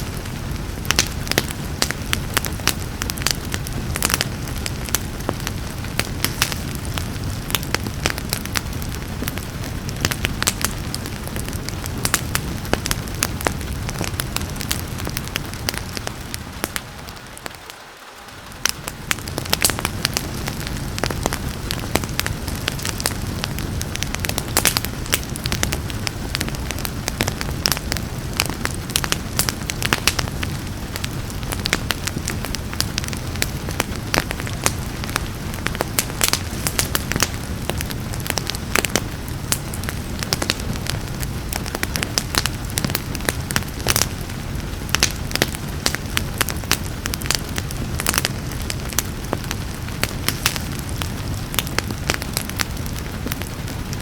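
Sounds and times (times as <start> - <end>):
rain hissing: 0.0 - 54.0
wood fire crackling and popping: 0.0 - 54.0.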